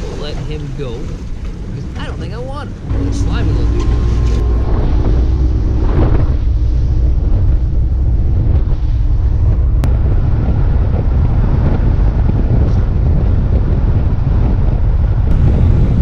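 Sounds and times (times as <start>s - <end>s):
outboard motor rumble: 0.0s - 16.0s
wind buffeting the microphone: 0.0s - 16.0s.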